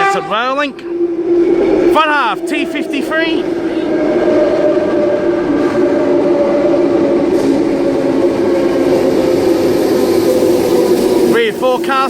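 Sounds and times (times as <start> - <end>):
electric train motor whine: 0.0 - 12.0
wheels rumbling: 0.0 - 12.0.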